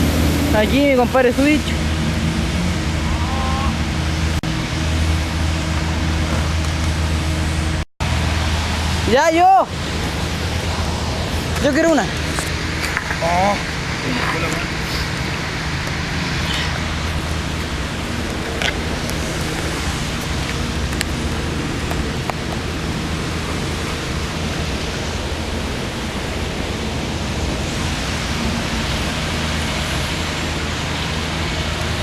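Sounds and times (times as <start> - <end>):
low hum: 0.0 - 32.0
rain hissing: 0.0 - 32.0.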